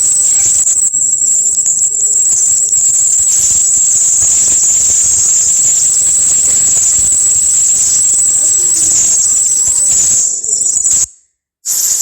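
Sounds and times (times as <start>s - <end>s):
high-pitched hissing whine: 0.0s - 12.0s.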